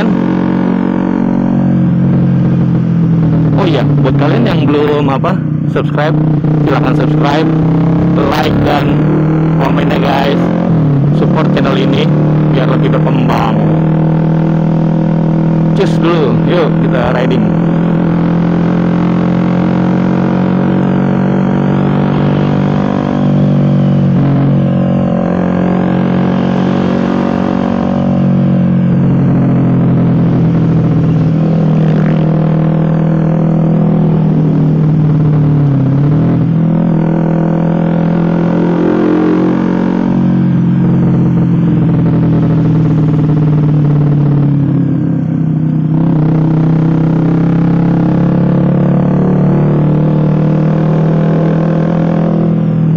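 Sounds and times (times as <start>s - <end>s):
motorcycle engine drone: 0.0s - 52.9s.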